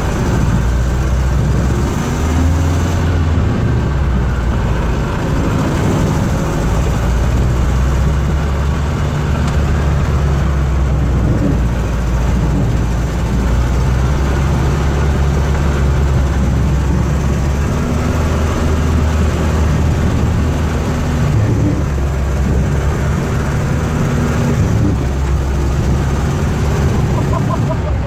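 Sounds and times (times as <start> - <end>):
snowcat engine droning: 0.0 - 28.0.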